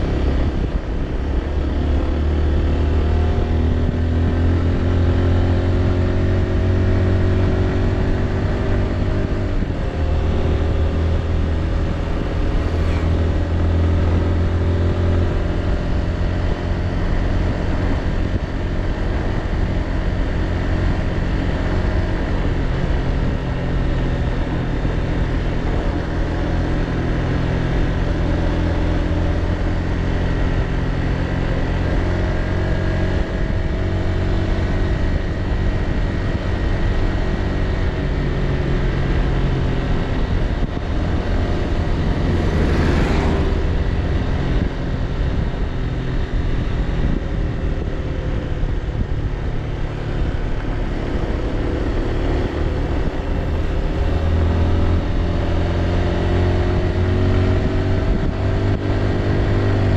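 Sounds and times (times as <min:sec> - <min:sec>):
road noise: 0:00.0 - 0:59.9
wind: 0:00.0 - 0:59.9.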